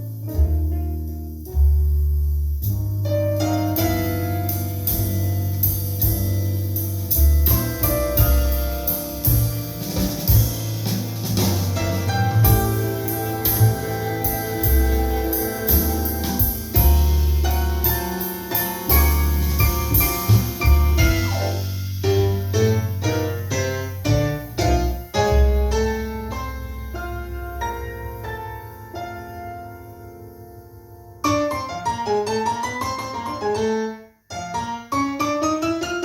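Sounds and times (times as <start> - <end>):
upright bass notes: 0.0 - 31.2
piano melody: 0.0 - 36.0.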